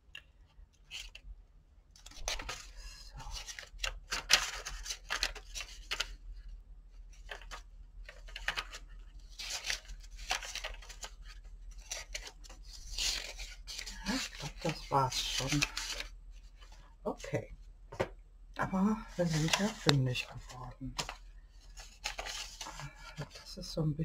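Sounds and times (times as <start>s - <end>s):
paper pages turning: 0.0s - 1.3s, 1.9s - 17.4s, 19.0s - 23.5s.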